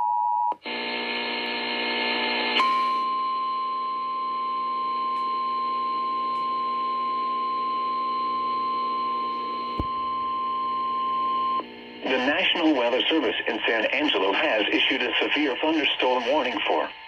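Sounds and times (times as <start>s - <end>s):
radio buzzing hum: 0.6s - 17.0s.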